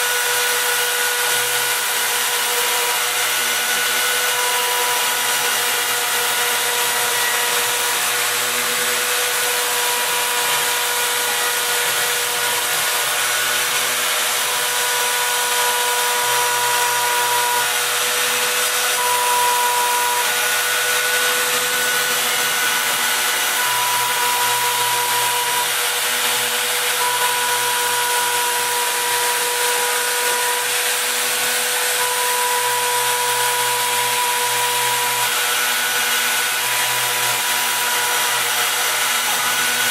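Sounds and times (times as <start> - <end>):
axis motors whining: 0.0 - 39.9
router spindle running: 0.0 - 39.9.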